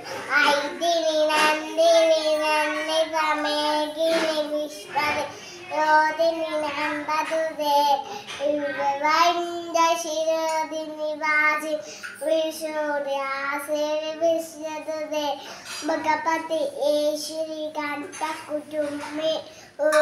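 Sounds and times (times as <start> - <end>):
girl chanting verses: 0.0 - 20.0.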